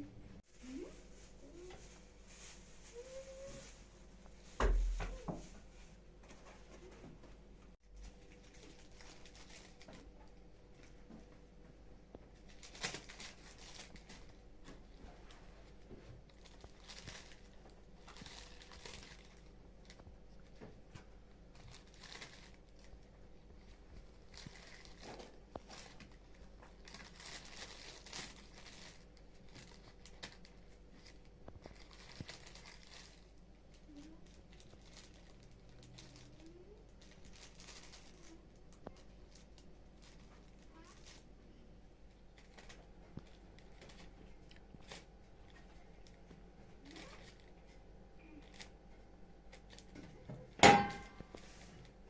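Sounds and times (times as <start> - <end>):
crinkling and rustling: 0.4 - 52.0.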